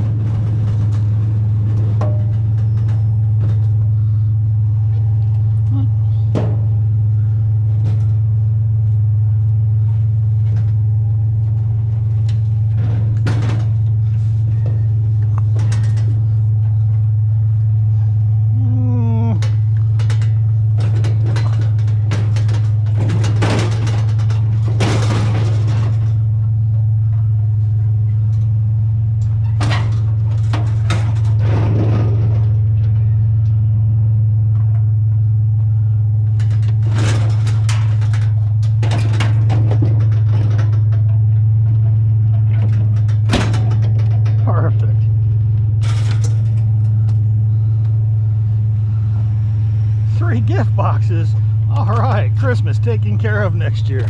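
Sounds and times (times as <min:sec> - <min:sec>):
clunks and rattles: 0:00.0 - 0:54.0
truck engine droning: 0:00.0 - 0:54.0.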